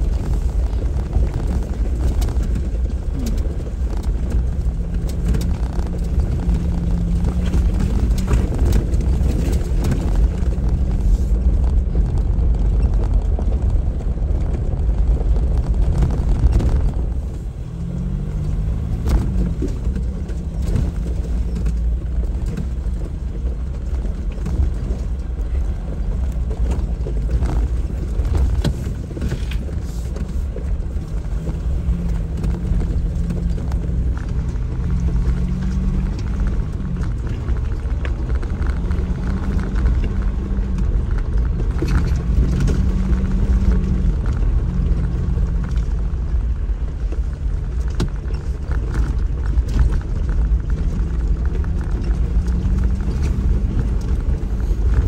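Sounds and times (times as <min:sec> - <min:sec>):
off-road vehicle engine: 0:00.0 - 0:55.0.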